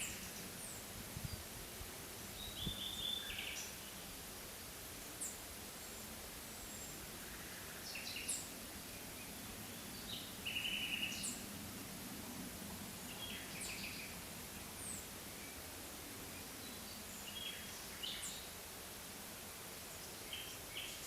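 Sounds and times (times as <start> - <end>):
background hiss: 0.0 - 21.0.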